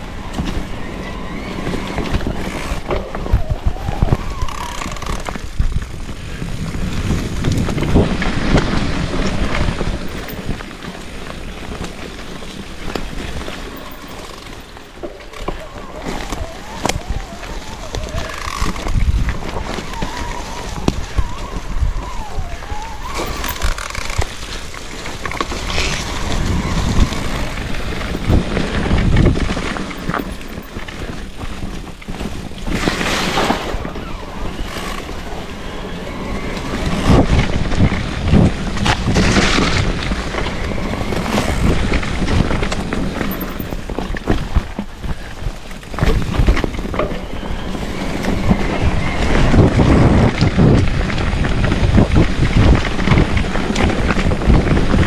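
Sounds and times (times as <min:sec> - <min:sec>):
bike tyre noise: 0:00.0 - 0:55.0
wind rushing over microphone: 0:00.0 - 0:55.0.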